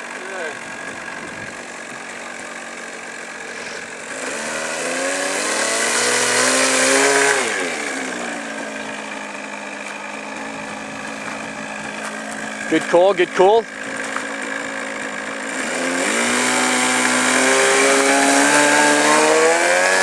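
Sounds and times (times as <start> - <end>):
model airplane engine: 0.0 - 20.0.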